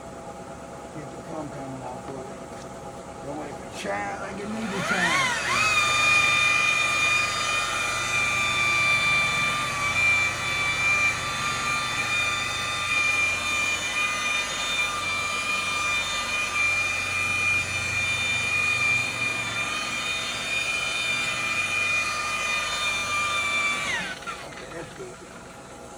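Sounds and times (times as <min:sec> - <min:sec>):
paint buffer motor whine: 0:00.0 - 0:25.9.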